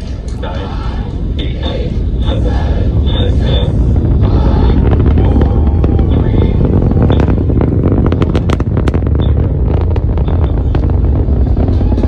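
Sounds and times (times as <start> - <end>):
distant rocket engines rumbling: 0.0 - 12.0.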